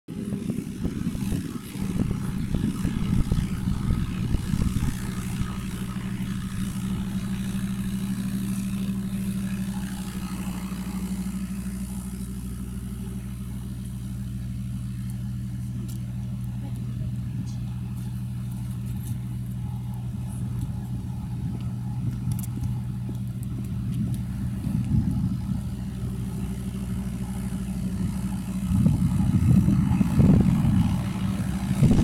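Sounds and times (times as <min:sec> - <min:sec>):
engine idling: 0:00.1 - 0:32.0
uneven engine rumble and clatter: 0:00.1 - 0:32.0.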